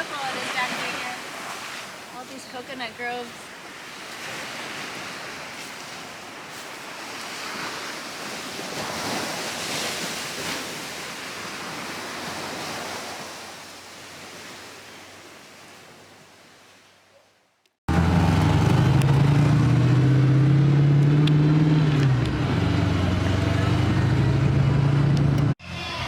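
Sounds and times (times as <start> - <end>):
ocean waves breaking: 0.0 - 16.9, 17.9 - 26.0.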